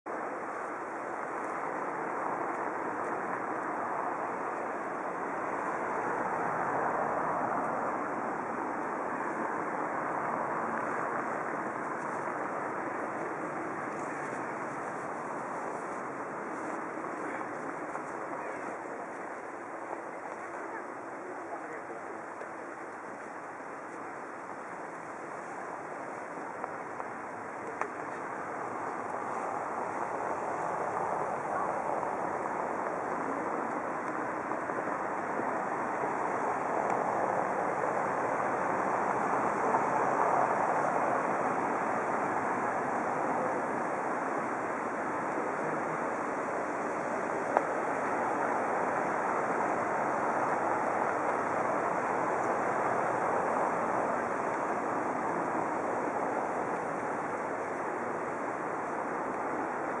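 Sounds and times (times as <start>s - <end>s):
outdoor rushing noise: 0.1s - 60.0s.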